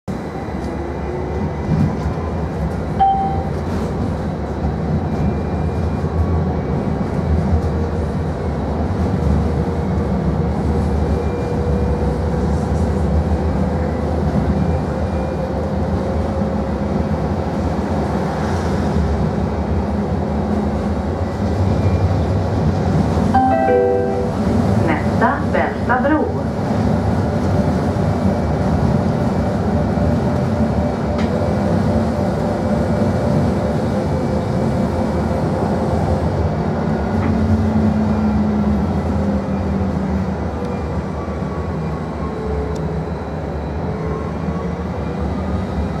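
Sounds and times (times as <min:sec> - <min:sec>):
tram wheels rumbling on rails: 0:00.1 - 0:46.0.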